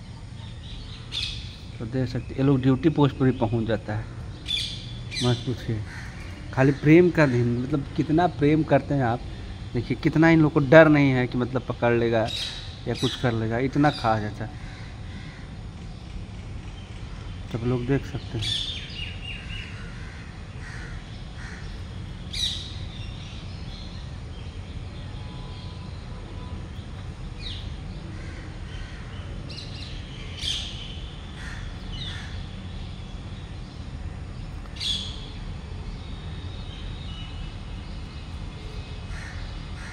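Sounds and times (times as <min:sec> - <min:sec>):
sharp bird calls: 0:00.0 - 0:39.9.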